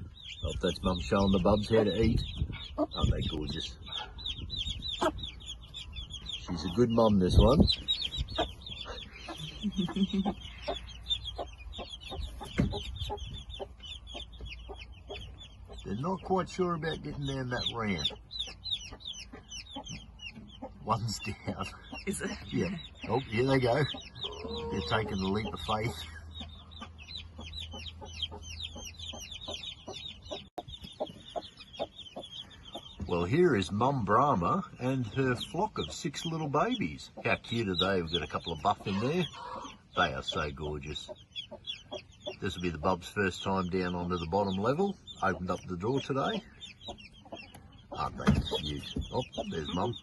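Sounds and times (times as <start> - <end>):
chicks peeping: 0.0 - 50.0
hen clucking: 0.0 - 50.0.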